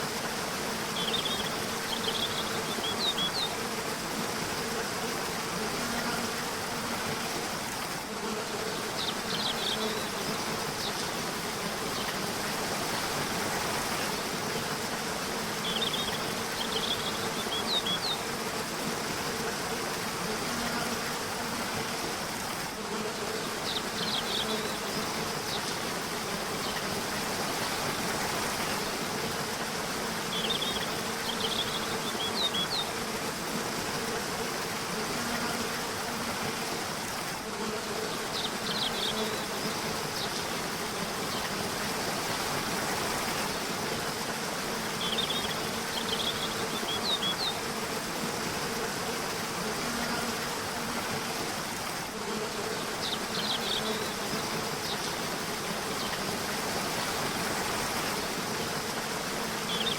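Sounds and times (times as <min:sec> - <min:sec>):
rushing river water: 0:00.0 - 0:59.9.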